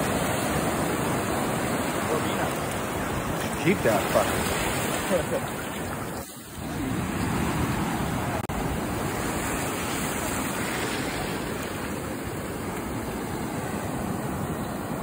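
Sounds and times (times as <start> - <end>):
ocean surf washing: 0.0 - 15.0.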